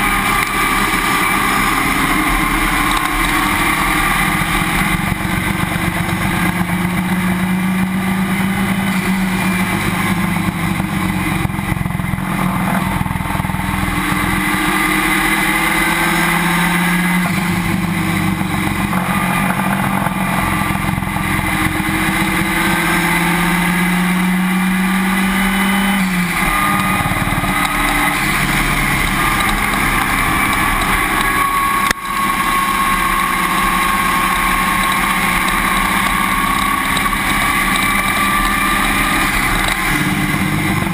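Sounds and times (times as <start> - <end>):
race car engine revving: 0.0 - 40.9
wind and road noise: 0.0 - 40.9.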